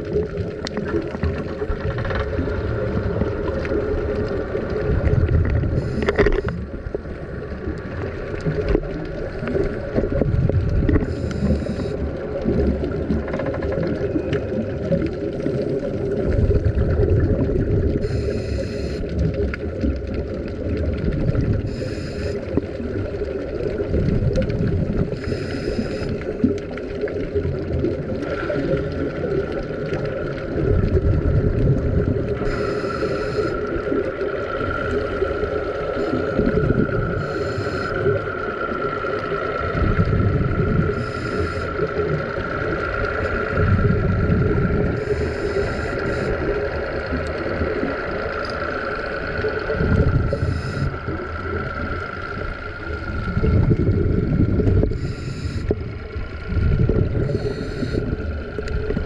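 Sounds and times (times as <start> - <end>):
exhaled bubbles gurgling: 0.0 - 59.0
low underwater rumble and hum: 0.0 - 59.0.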